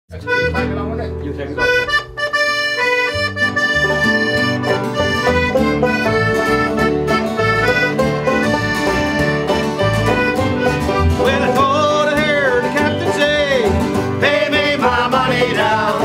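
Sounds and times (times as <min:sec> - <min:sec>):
accordion melody: 0:00.1 - 0:16.0
bass line: 0:00.1 - 0:16.0
strummed guitar: 0:00.1 - 0:16.0.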